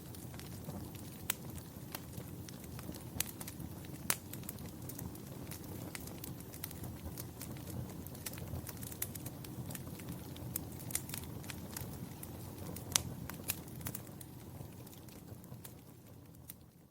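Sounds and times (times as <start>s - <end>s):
low rumble of burning: 0.0s - 16.9s
wood fire crackling and popping: 0.0s - 16.9s.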